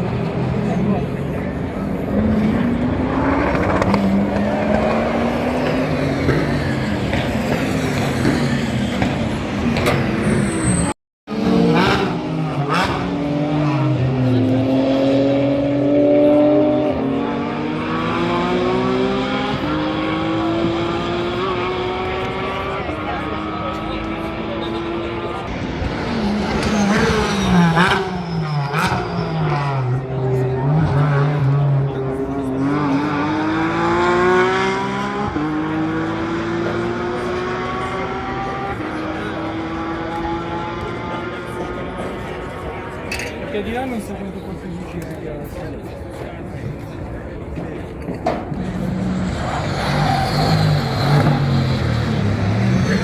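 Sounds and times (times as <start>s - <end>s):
race car engine accelerating: 0.0s - 45.3s, 46.0s - 53.0s.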